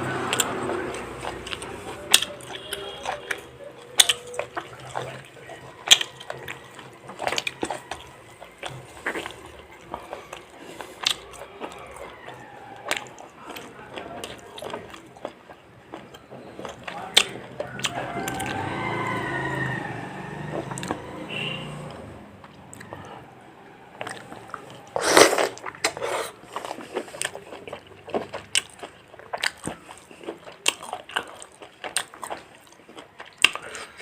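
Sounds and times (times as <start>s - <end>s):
fried chicken crunching: 0.0s - 23.2s, 24.0s - 34.0s.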